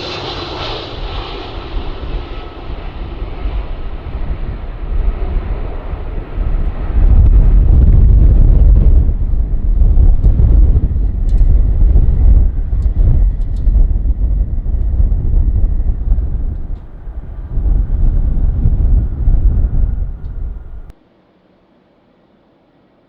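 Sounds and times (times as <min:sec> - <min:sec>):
jet engines rumbling: 0:00.0 - 0:21.0
wind gusting on microphone: 0:00.0 - 0:21.0.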